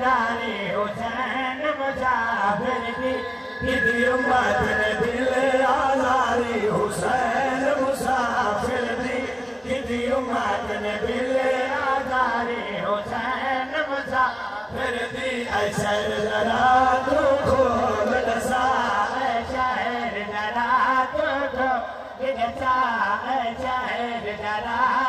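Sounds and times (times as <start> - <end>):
voices chanting a lament: 0.0 - 25.0.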